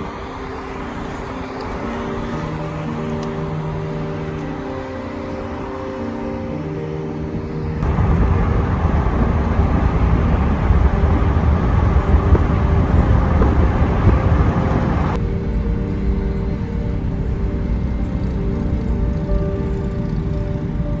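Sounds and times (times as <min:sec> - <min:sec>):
background music with held notes: 0:00.0 - 0:21.0
car road and wind rumble: 0:00.0 - 0:21.0.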